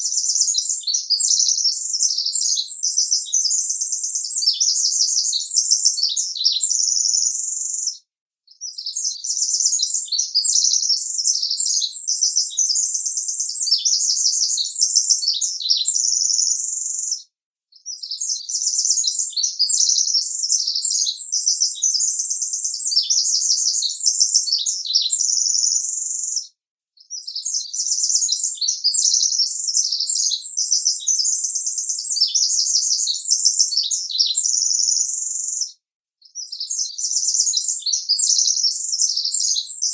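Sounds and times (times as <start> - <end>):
bird warbling and trilling: 0.0 - 7.9, 8.6 - 17.2, 17.9 - 26.4, 27.1 - 35.7, 36.3 - 39.9.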